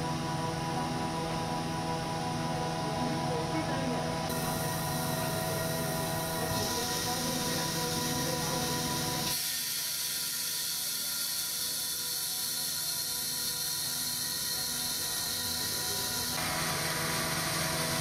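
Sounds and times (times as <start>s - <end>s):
machine hum with held tones: 0.0s - 18.0s
steady high hiss: 1.5s - 18.0s.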